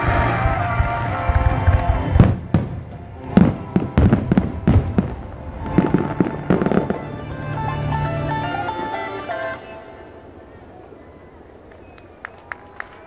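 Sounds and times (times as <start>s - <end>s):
music playing: 0.0s - 10.7s
fireworks bangs: 0.0s - 13.0s
fireworks crackling: 0.0s - 13.0s.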